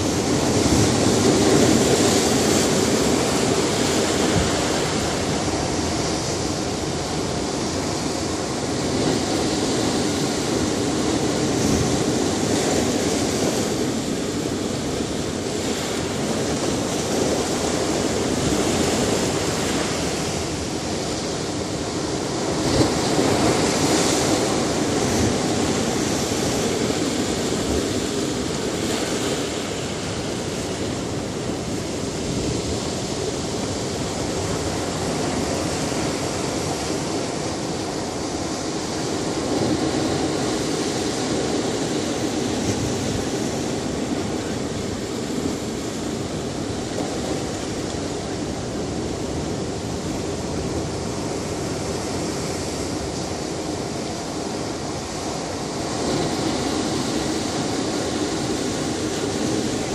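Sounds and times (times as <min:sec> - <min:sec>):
ocean surf breaking over rocks: 0:00.0 - 0:59.9.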